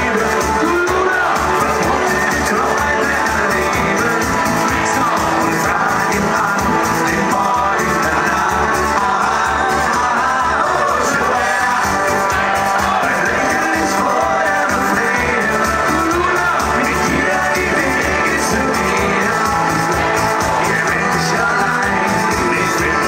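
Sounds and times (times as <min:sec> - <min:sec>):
live band playing: 0:00.0 - 0:23.0
people singing into microphones: 0:00.0 - 0:23.0.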